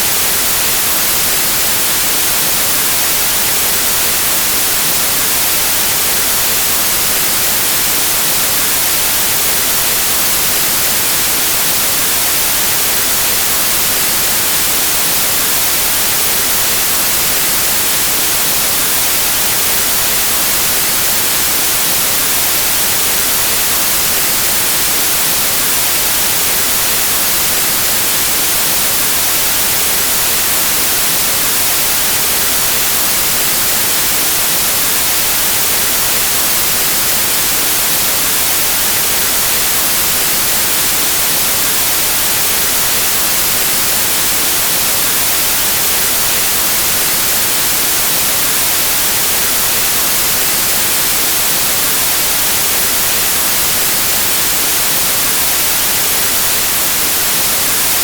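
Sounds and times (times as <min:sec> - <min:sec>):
static hiss: 0:00.0 - 0:58.0.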